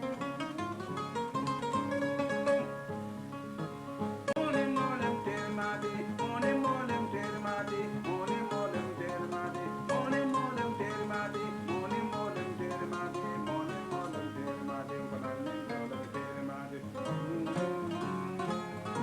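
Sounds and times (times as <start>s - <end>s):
harp-lute plucked rapidly: 0.0s - 16.4s.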